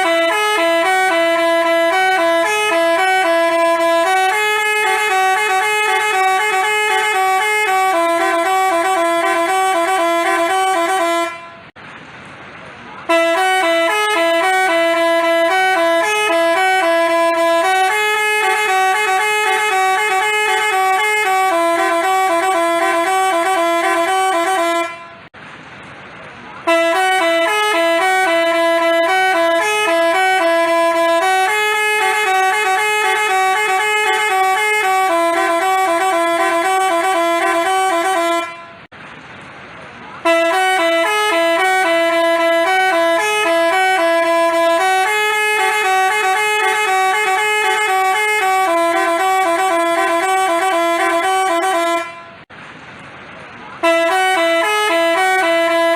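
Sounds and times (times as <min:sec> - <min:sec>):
musical bus horn tune: 0:00.0 - 0:11.8, 0:13.0 - 0:25.4, 0:26.6 - 0:38.9, 0:40.2 - 0:52.5, 0:53.8 - 0:55.9.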